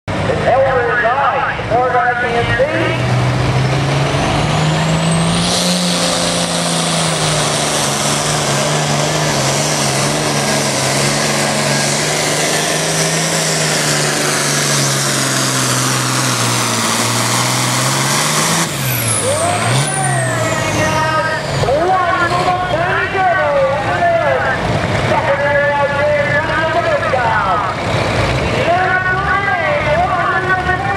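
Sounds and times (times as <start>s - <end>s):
diesel tractor at full throttle: 0.0s - 30.9s.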